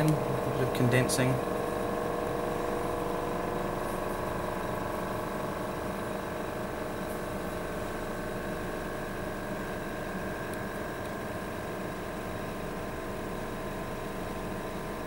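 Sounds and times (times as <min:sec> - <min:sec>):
machine hum with held tones: 0:00.0 - 0:15.0.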